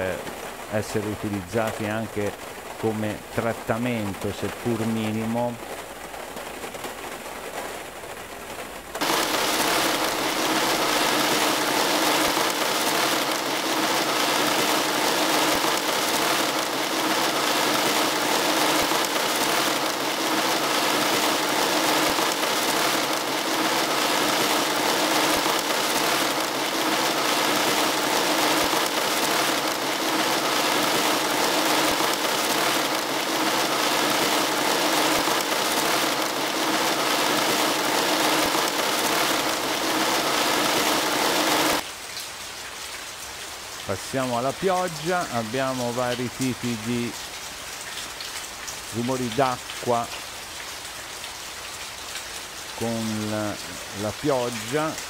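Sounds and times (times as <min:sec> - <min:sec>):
hail pattering: 0:00.0 - 0:41.9, 0:43.9 - 0:55.0.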